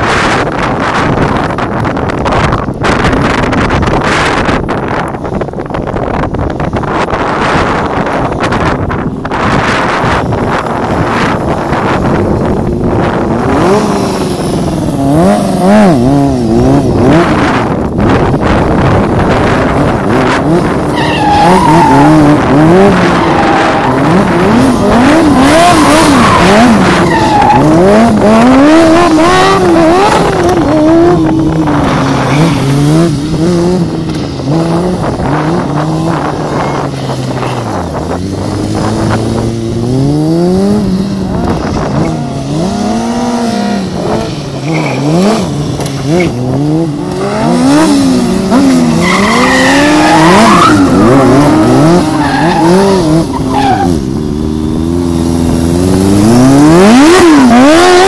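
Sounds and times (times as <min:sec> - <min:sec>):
motorcycle engines revving hard: 0:00.0 - 0:58.0.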